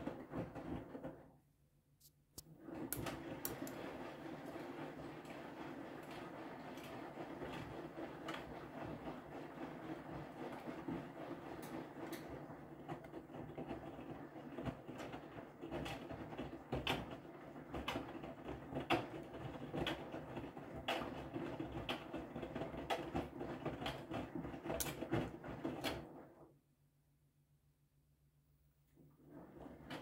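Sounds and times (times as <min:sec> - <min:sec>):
laundry tumbling: 0:00.0 - 0:01.3, 0:02.5 - 0:26.4
washing machine drum turning: 0:00.0 - 0:01.3, 0:02.4 - 0:26.2.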